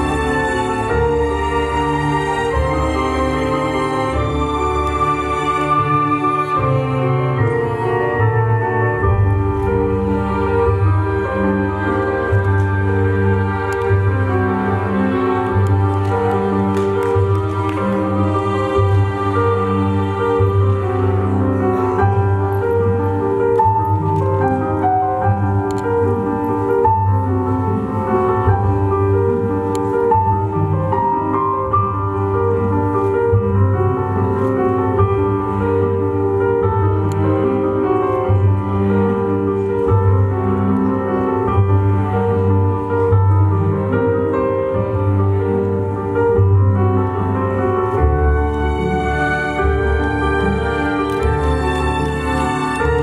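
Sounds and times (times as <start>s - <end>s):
slow piano and strings music: 0.0s - 53.0s.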